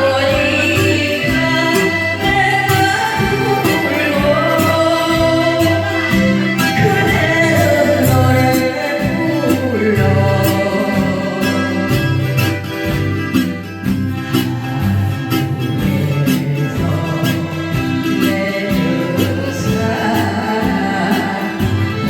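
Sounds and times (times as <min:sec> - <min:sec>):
woman singing: 0:00.0 - 0:13.0, 0:14.2 - 0:22.0
backing track with bass beat: 0:00.0 - 0:22.0.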